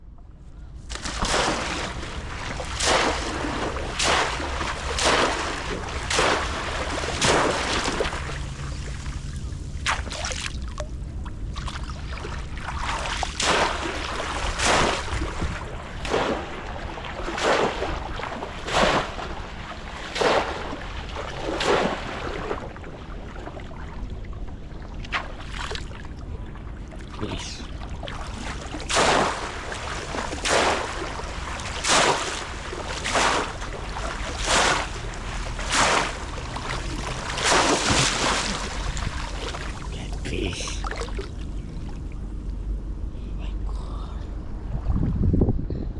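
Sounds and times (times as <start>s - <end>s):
wind rumble on microphone: 0.0s - 28.7s, 29.4s - 45.9s
splashes in shallow water: 0.9s - 42.5s.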